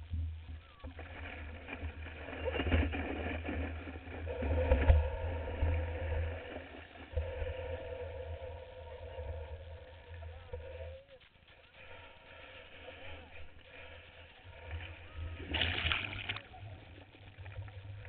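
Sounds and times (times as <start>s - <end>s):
surf washing: 0.5s - 18.0s.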